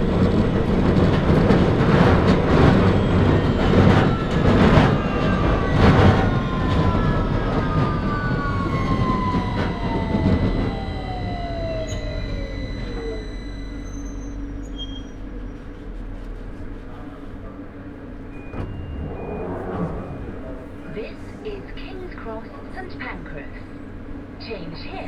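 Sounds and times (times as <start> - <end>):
train motors whining: 0.0 - 23.1
wheel and rail rumble: 0.0 - 25.0.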